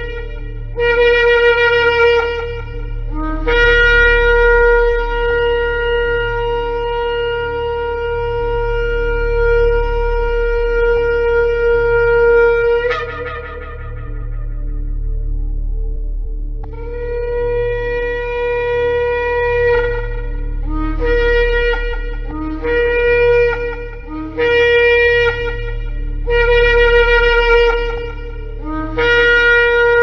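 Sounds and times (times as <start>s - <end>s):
shofar blast: 0.0s - 15.9s, 16.6s - 30.0s
steady low hum: 0.0s - 30.0s.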